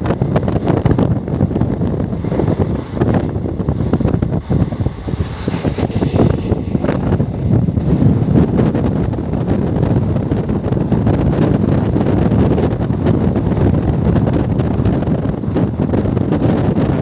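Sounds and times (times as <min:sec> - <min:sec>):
train rumbling: 0:00.0 - 0:17.0
wind buffeting microphone: 0:00.0 - 0:17.0.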